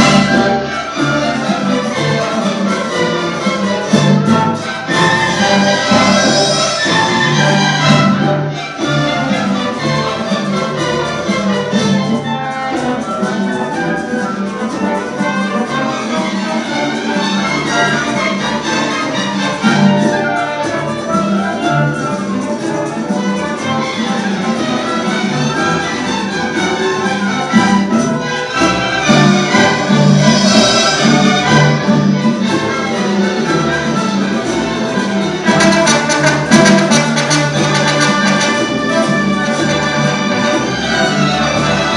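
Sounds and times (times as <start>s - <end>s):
cellos: 0.0s - 41.9s
double basses: 0.0s - 41.9s
orchestra playing: 0.0s - 41.9s
violins: 0.0s - 41.9s.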